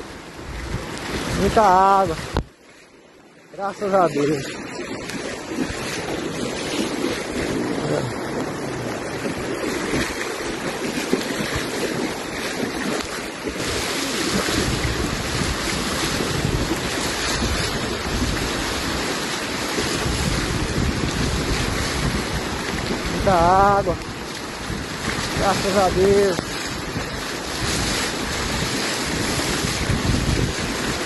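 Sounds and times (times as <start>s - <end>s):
wind buffeting microphone: 0.0s - 2.6s, 3.9s - 31.0s
floodwater rushing: 0.0s - 31.0s.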